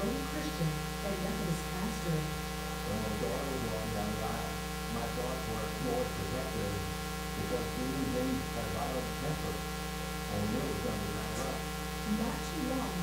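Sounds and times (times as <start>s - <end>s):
faint indistinct voices: 0.0s - 6.8s, 7.4s - 9.6s, 10.3s - 13.0s
electrical mains hum: 0.0s - 13.0s.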